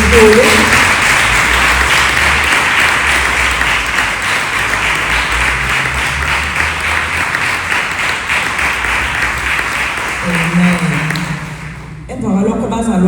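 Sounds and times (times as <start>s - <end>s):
congregation applauding: 0.0s - 12.1s.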